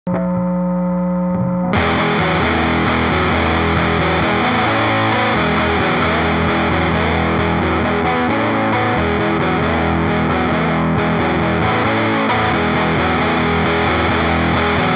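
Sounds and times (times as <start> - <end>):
fuzz-distorted electric guitar: 0.1 - 14.9.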